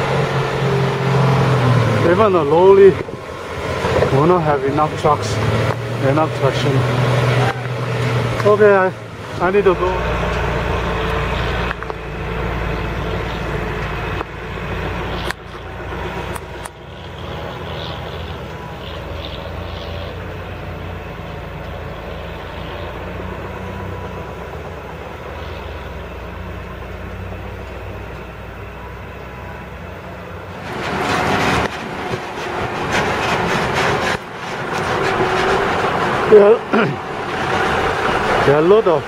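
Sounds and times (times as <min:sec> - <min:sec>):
truck diesel engine labouring: 0:00.0 - 0:39.0.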